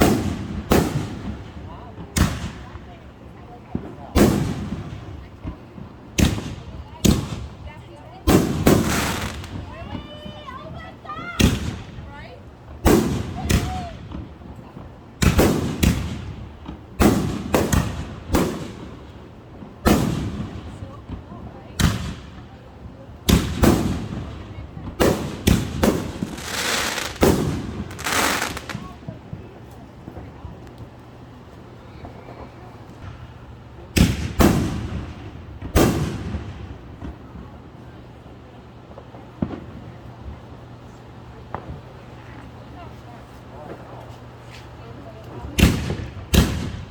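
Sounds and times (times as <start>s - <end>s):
fireworks exploding: 0.0s - 38.3s, 38.9s - 40.5s, 41.4s - 46.9s.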